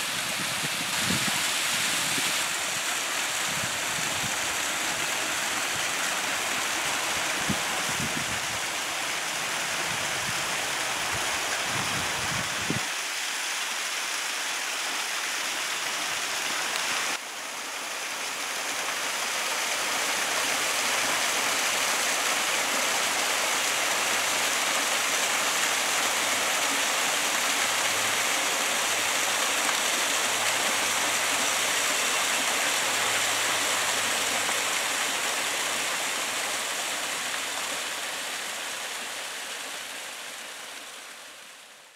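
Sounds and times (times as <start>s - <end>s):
waterfall splashing on rocks: 0.0s - 41.6s.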